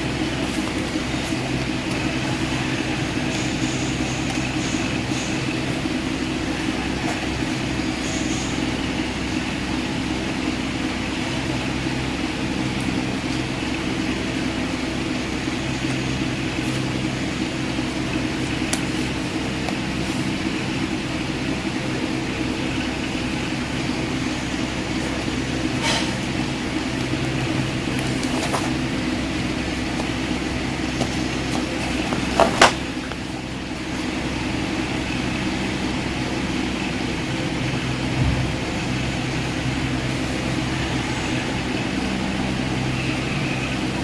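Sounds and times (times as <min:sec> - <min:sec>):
mechanical hum and hiss: 0:00.0 - 0:44.0.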